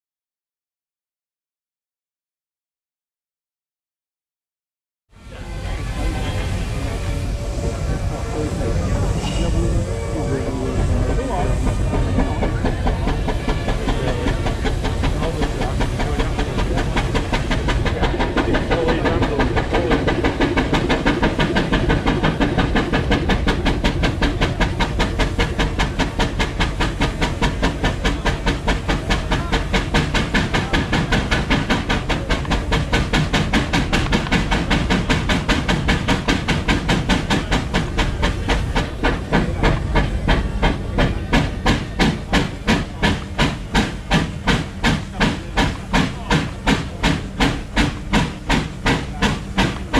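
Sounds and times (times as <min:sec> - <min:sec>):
steady steam hiss: 0:05.2 - 0:49.9
steam engine exhaust beats: 0:05.2 - 0:49.9.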